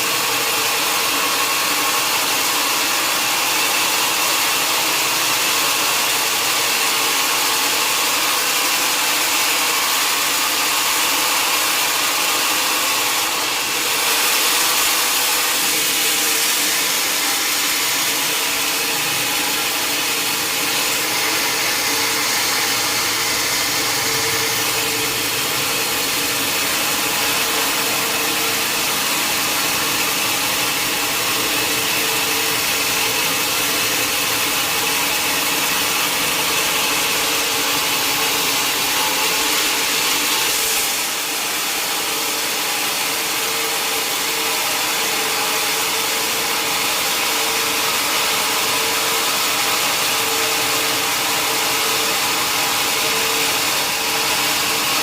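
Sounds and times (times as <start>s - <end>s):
sawmill saw cutting log: 0.0s - 55.0s.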